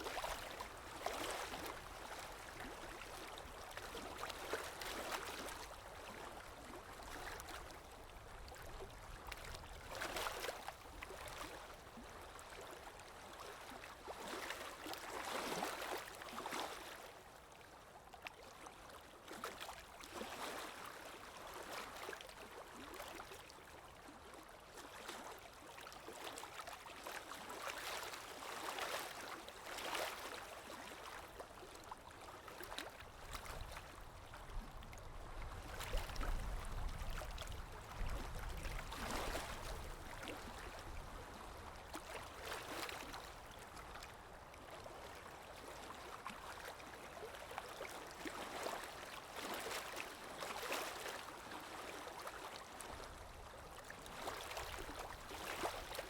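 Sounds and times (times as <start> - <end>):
water lapping: 0.0 - 17.1, 18.3 - 56.0.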